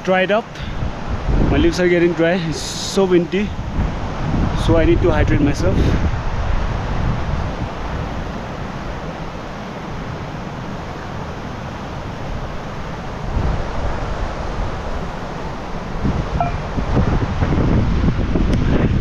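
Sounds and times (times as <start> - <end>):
wind buffeting microphone: 0.6 - 19.0.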